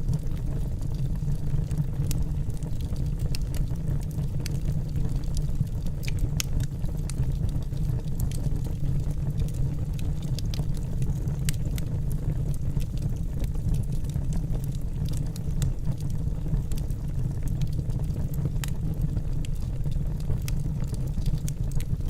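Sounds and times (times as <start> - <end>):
burning logs crackling and popping: 0.0 - 22.0
low rumble of flames: 0.0 - 22.0.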